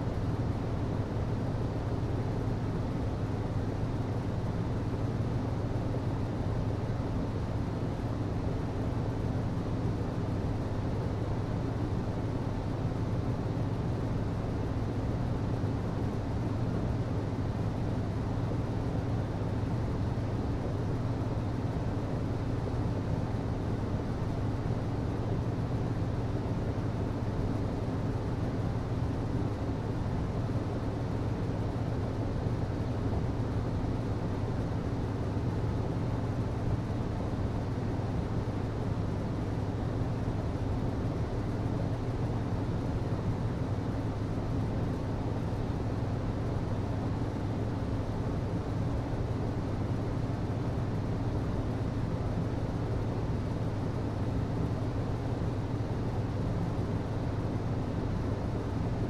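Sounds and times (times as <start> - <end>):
hvac system drone: 0.0 - 59.0.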